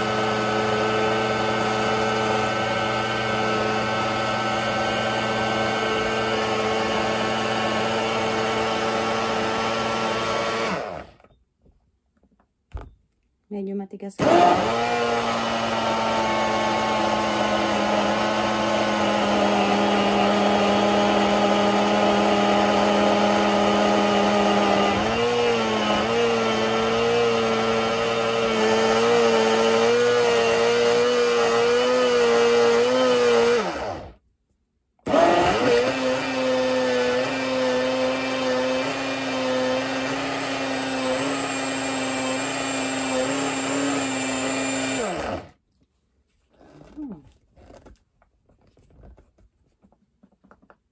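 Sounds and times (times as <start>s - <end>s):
blender motor running: 0.0s - 11.3s, 14.2s - 34.2s, 35.1s - 45.6s.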